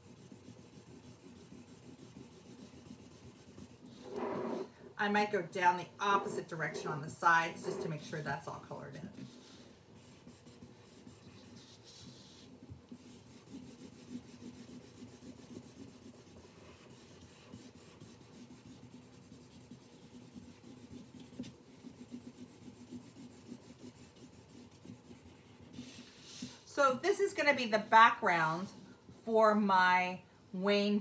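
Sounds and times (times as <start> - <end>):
marker rubbing on paper: 0.0 - 28.8.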